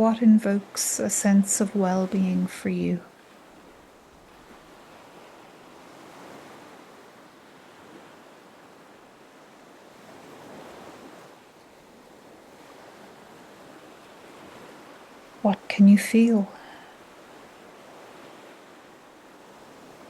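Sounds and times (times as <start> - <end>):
ocean waves washing onto shore: 0.0 - 20.0.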